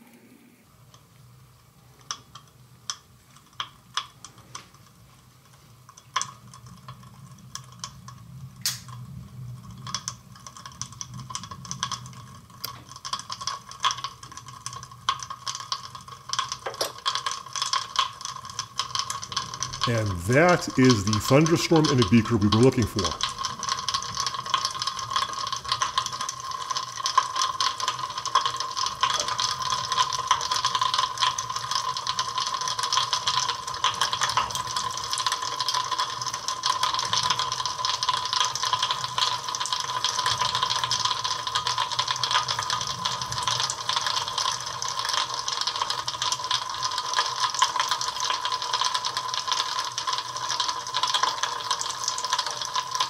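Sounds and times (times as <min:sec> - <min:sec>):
crackling of tiny pops: 0:00.0 - 0:53.0.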